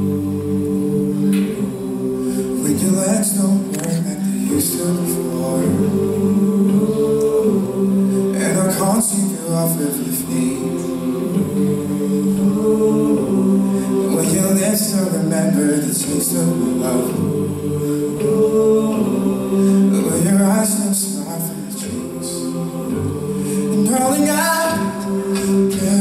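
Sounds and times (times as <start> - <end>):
male group singing close harmony: 0.0 - 26.0
vocal percussion: 0.0 - 26.0.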